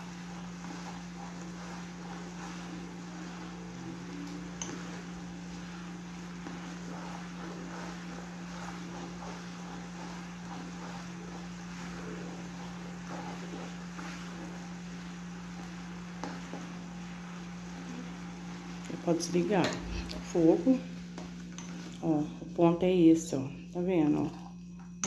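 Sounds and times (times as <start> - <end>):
plastic spoon stirring: 0.0 - 22.2
steady low hum: 0.0 - 25.0
syrup boiling in a saucepan: 0.0 - 25.0.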